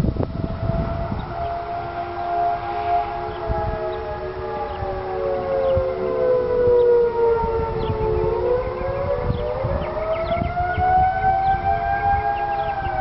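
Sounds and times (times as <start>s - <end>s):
steady lower siren tones: 0.0s - 13.0s
warning sirens wailing: 0.0s - 13.0s.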